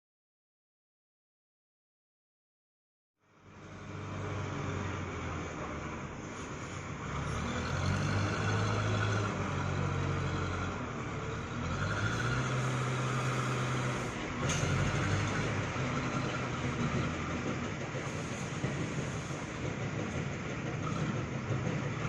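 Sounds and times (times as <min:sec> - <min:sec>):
backhoe diesel engine working: 0:03.3 - 0:22.0.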